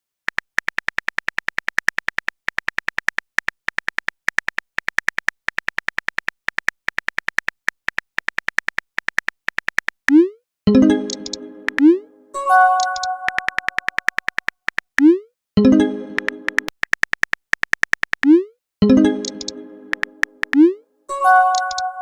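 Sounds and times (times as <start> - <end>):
rapid electronic typing ticks: 0.3 - 12.0, 12.7 - 15.2, 16.2 - 20.8, 21.5 - 22.0.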